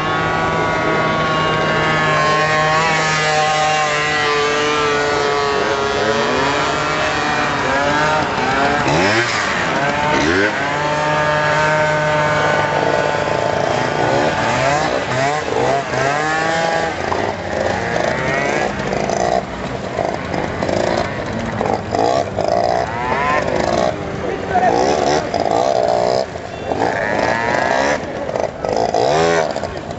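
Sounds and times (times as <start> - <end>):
scooter engines revving: 0.0 - 29.9.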